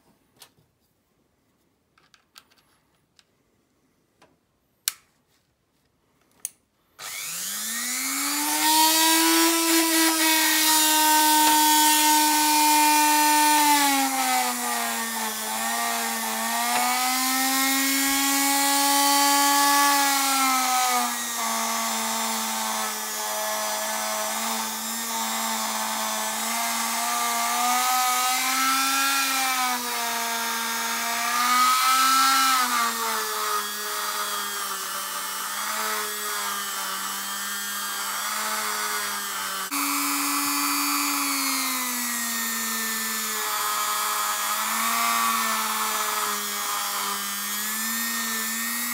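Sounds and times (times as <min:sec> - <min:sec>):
rotary tool motor whine: 0:07.0 - 0:48.9.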